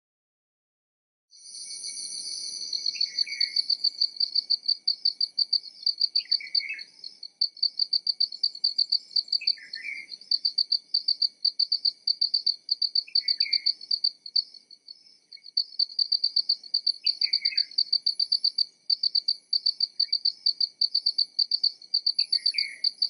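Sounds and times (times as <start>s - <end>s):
crickets chirping: 1.4s - 23.0s
high insect trill: 1.4s - 23.0s.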